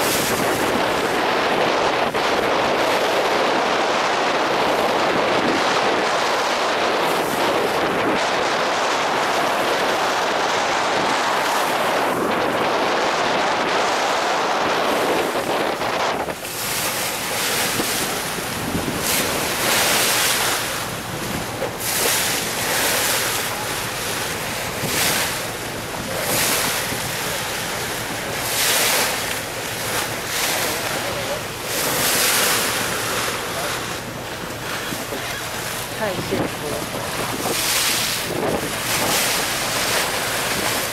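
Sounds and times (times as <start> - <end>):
water rushing past boat: 0.0 - 40.9
water splashing surges: 0.0 - 40.9
wind buffeting microphone: 0.0 - 40.9.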